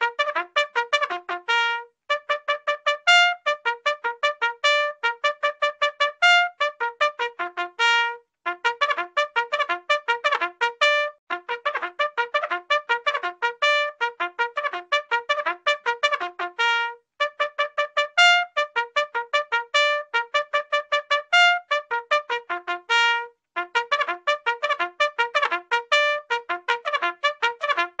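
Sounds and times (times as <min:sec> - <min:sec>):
brass horn bugle call: 0:00.0 - 0:28.0.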